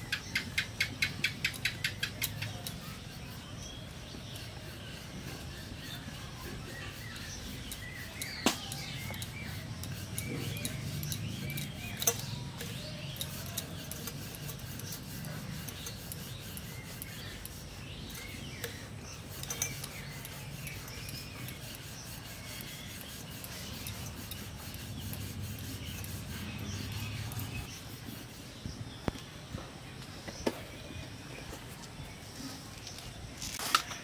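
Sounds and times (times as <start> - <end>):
rolling pin rubbing on dough: 1.9 - 29.1.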